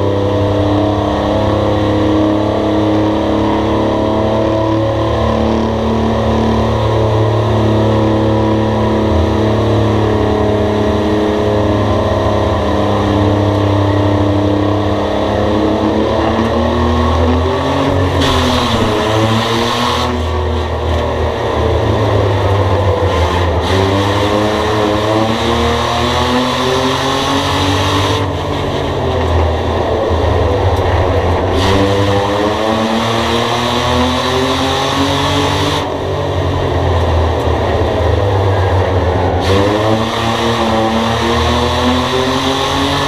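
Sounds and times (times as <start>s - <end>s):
race car engines accelerating: 0.0s - 43.0s.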